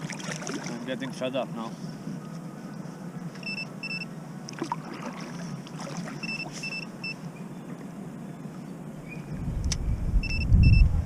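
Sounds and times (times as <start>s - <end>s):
water and wind around kayak: 0.0s - 11.0s.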